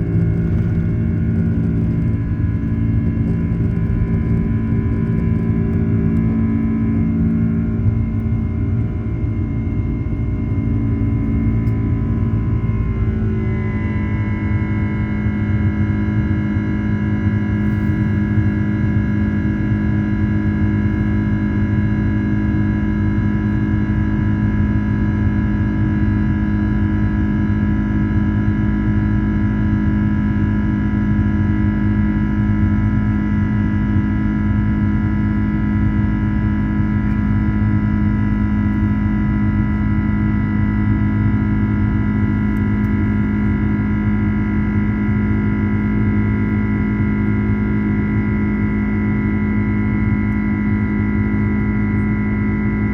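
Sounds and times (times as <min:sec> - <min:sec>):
constant whining tones: 0:00.0 - 0:52.9
jet engine rumble: 0:00.0 - 0:52.9.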